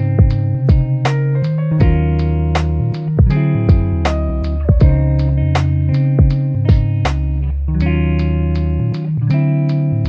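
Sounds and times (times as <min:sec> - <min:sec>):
guitar music with bass and drums: 0:00.0 - 0:10.0.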